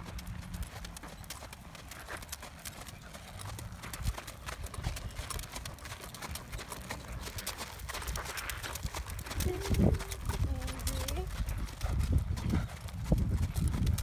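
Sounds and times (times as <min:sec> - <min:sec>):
horse hooves trotting on gravel: 0:00.0 - 0:14.0.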